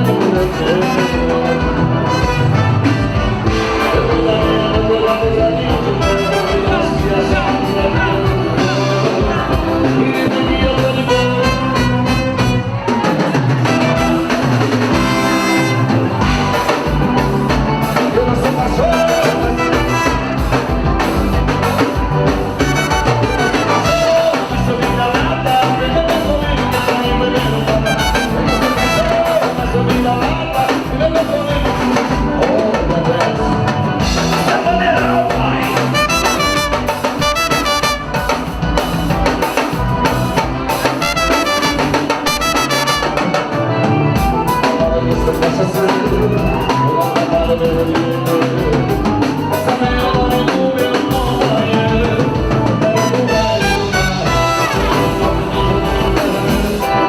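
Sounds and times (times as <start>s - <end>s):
upbeat instrumental music: 0.0s - 57.0s.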